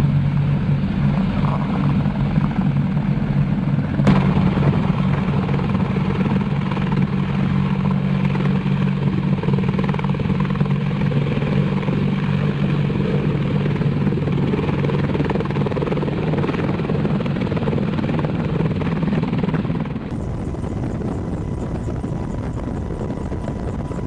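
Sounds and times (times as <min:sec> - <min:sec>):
strong low drone: 0:00.0 - 0:15.8, 0:20.1 - 0:24.0
helicopter rotors and engines: 0:00.0 - 0:24.0.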